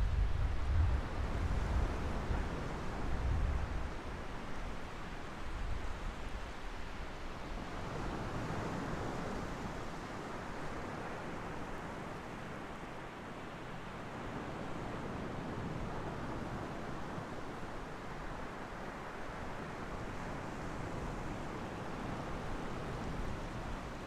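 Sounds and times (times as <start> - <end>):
ocean surf washing ashore: 0.5 - 24.0.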